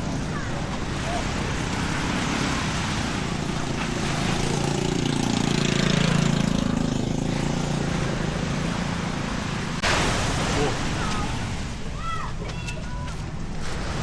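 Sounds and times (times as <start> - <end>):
vehicle engine passing by: 0.0 - 11.8.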